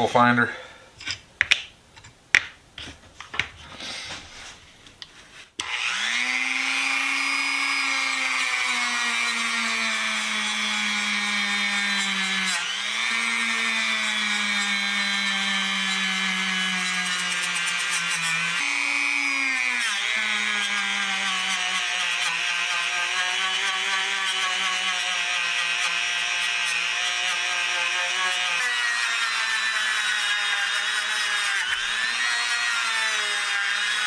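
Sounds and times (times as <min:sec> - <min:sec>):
power tool motor whining: 0:05.6 - 0:34.0.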